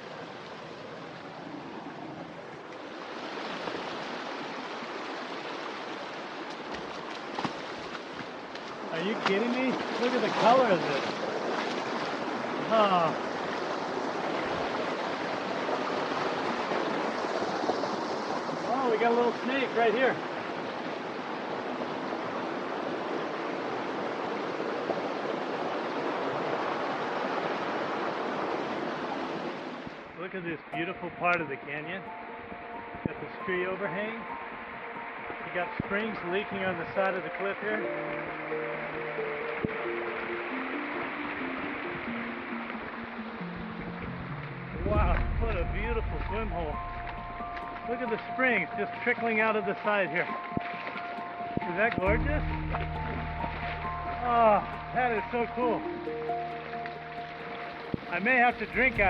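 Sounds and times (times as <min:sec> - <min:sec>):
creek water running over rocks: 0:00.0 - 0:59.0.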